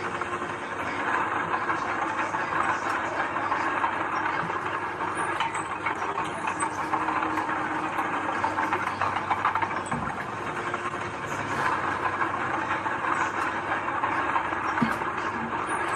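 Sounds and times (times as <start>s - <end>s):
heavy diesel machinery engine: 0.0s - 15.9s
dense metallic clatter: 0.8s - 15.9s.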